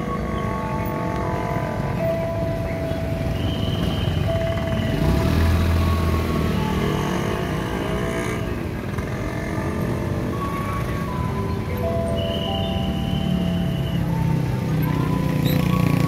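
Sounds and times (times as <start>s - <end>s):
motorbike and scooter engines: 0.0s - 16.0s.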